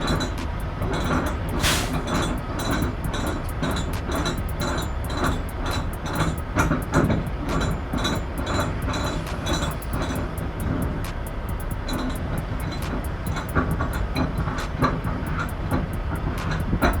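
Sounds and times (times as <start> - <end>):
heavy truck engine rumble: 0.0 - 17.0
rattling and clinking: 0.0 - 17.0.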